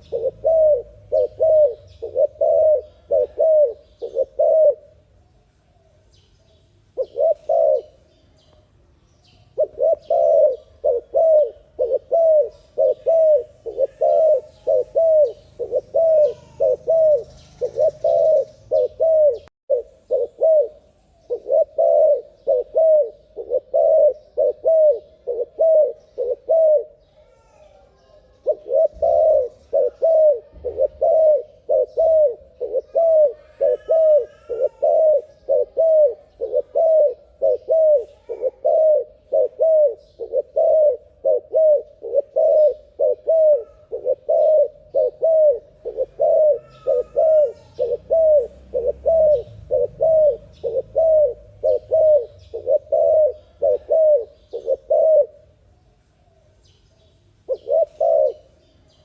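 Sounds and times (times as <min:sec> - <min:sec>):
dove cooing: 0:00.0 - 0:05.2, 0:07.0 - 0:08.1, 0:09.3 - 0:55.6, 0:57.4 - 0:59.0.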